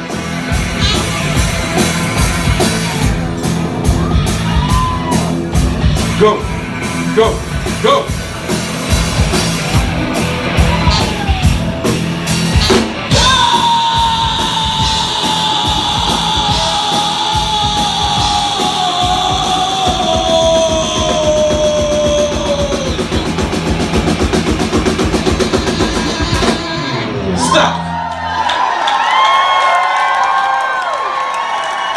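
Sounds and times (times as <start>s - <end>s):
rapid drum fills: 0.0s - 26.8s
live rock band playing: 0.0s - 27.8s.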